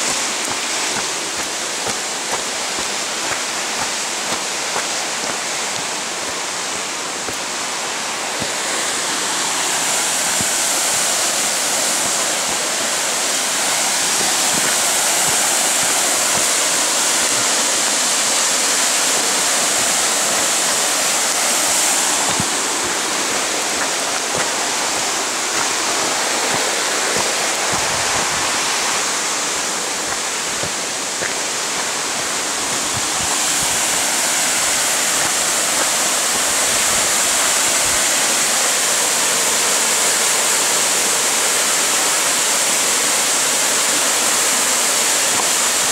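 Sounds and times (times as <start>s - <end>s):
river water rushing over rocks: 0.0s - 45.9s.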